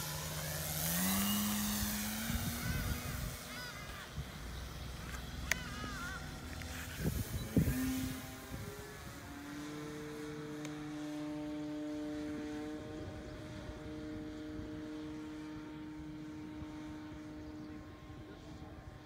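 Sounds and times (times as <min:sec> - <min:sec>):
model plane engine drone: 0:00.0 - 0:19.0.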